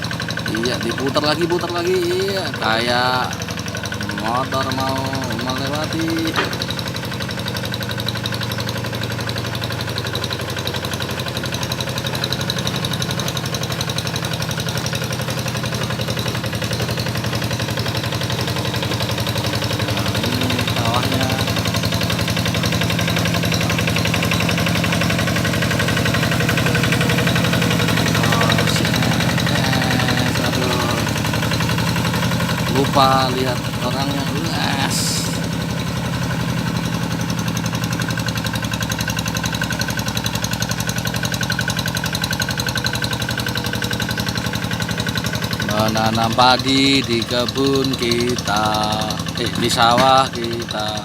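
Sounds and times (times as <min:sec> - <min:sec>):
tractor engine pulsing: 0:00.0 - 0:51.0.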